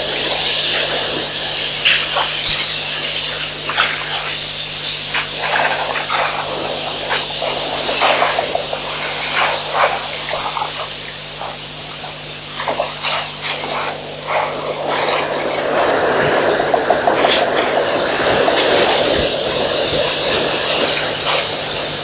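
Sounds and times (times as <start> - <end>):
water splashing and gushing: 0.0 - 22.0.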